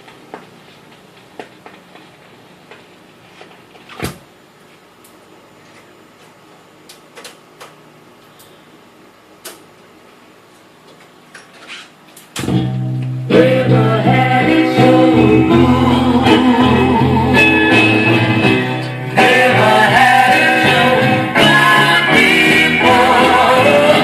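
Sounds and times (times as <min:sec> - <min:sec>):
steady mechanism hum: 0:00.0 - 0:24.0.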